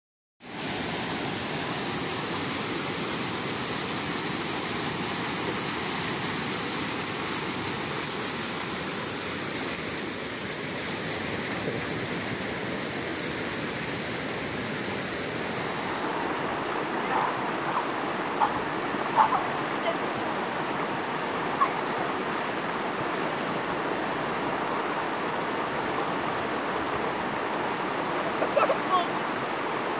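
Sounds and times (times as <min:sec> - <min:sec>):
waterfall rushing: 0:00.4 - 0:29.9.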